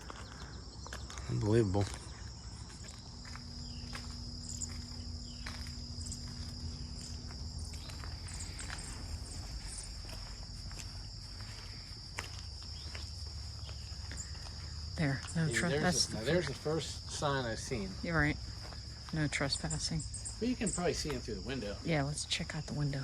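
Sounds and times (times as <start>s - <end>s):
footsteps walking: 0.0s - 21.6s
crickets chirping: 0.0s - 23.0s.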